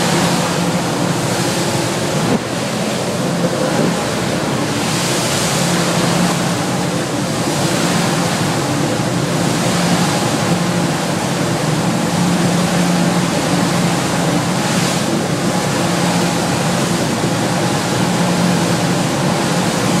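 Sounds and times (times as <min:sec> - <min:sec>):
boat engine drone: 0:00.0 - 0:20.0
wind and water rushing: 0:00.0 - 0:20.0.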